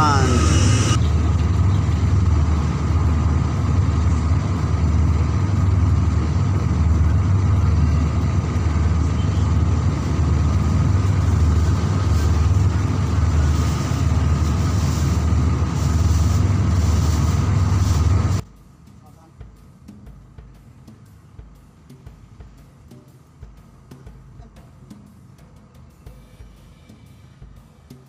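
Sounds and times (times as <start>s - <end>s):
steady low rumble: 0.0s - 25.4s.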